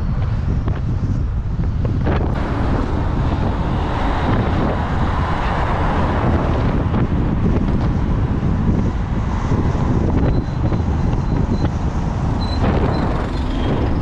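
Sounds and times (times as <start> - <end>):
tyres on road: 0.0 - 14.0
wind buffeting microphone: 0.0 - 14.0
van engine: 2.0 - 14.0.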